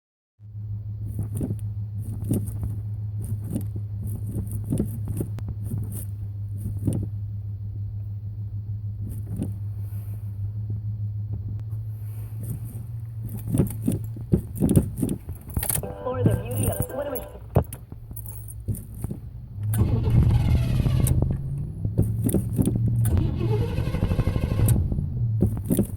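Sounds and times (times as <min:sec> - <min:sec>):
car engine humming: 0:00.4 - 0:25.9.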